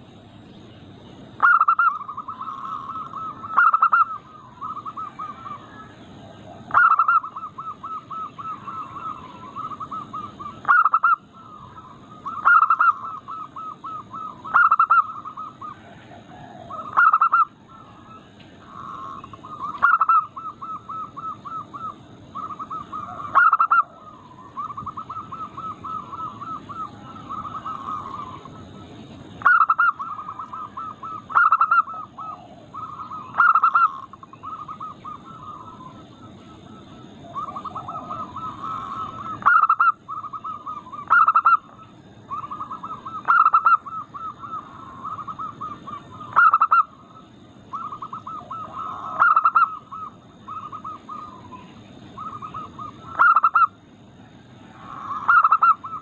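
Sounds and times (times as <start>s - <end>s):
dove cooing: 1.2s - 56.0s.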